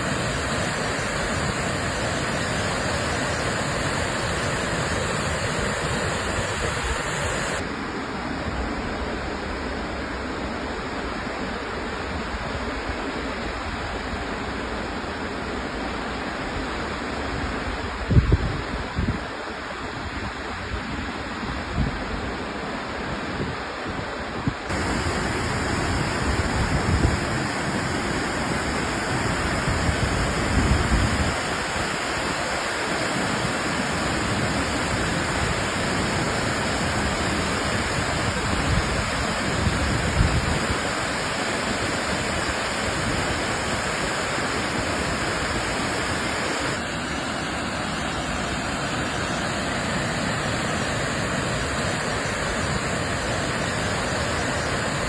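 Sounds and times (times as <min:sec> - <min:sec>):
waterfall rushing hiss: 0:00.0 - 0:55.0.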